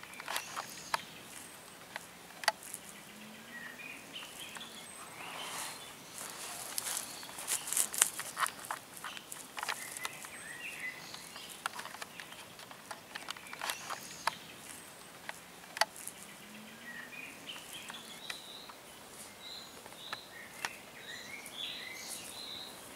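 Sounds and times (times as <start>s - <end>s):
crackles and rustles: 0.0s - 22.9s
faint steady background hiss: 0.0s - 22.9s
small bird chirping: 0.0s - 22.9s.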